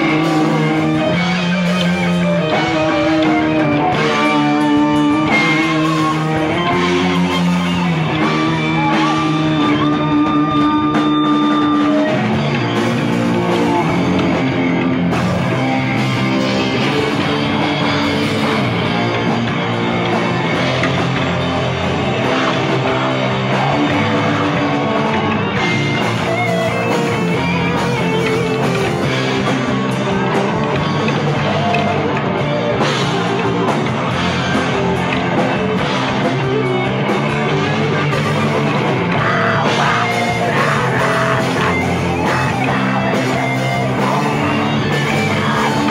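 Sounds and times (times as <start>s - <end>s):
live rock band playing: 0.0s - 45.9s
long held guitar notes: 0.0s - 45.9s.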